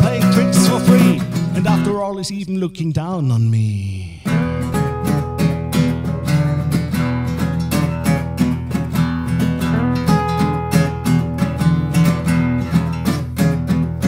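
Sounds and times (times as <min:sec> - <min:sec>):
strummed acoustic guitar: 0:00.0 - 0:02.1, 0:04.2 - 0:14.0
bass line: 0:00.0 - 0:14.0.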